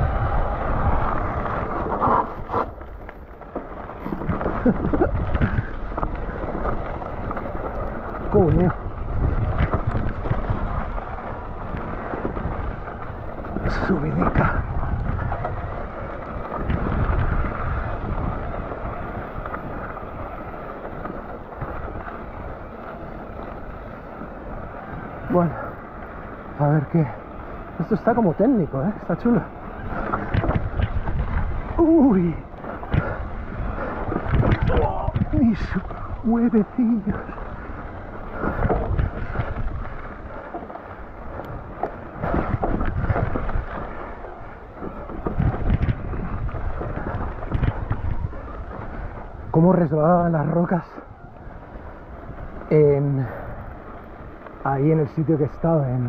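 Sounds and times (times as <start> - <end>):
bike rumbling on rough trail: 0.0 - 56.0
wind buffeting microphone: 0.0 - 56.0.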